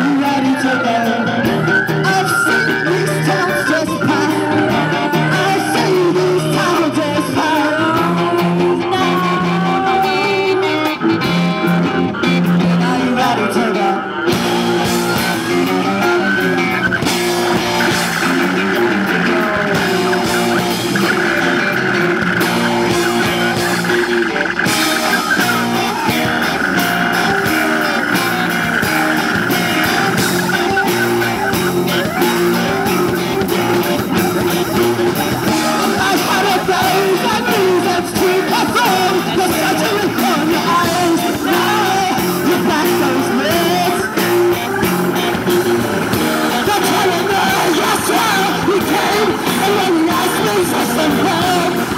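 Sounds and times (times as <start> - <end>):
rock band playing live: 0.0 - 51.9.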